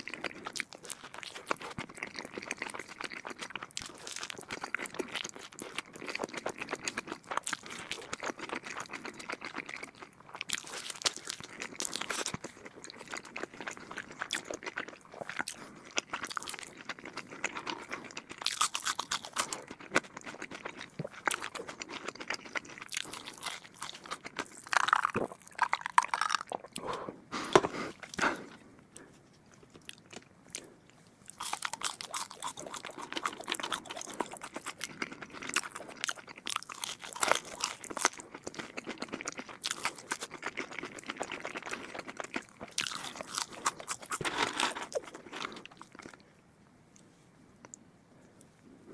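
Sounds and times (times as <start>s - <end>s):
person chewing with wet crunching: 0.0s - 48.8s.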